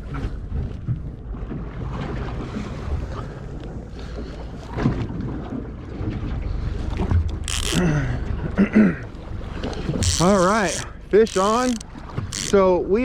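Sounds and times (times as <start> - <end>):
boat motor rumble: 0.0 - 13.0
water washing along hull: 0.0 - 13.0.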